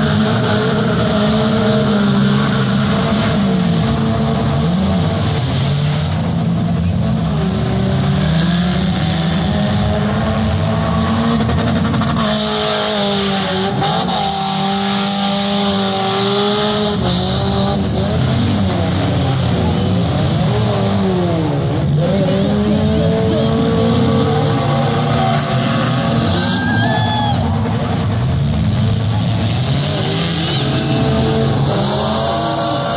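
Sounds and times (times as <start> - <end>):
car engines revving: 0.0 - 32.9.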